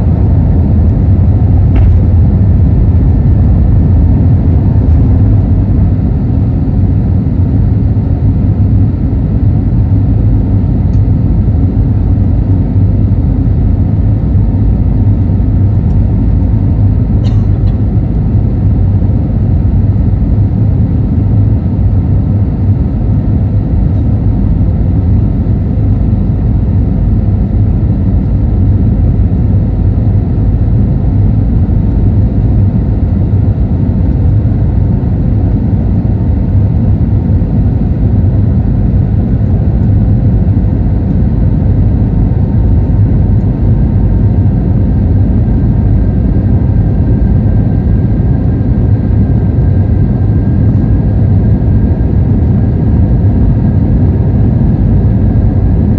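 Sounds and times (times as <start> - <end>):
airplane cabin engine rumble: 0.0 - 55.9
faint steady whine: 0.0 - 55.9.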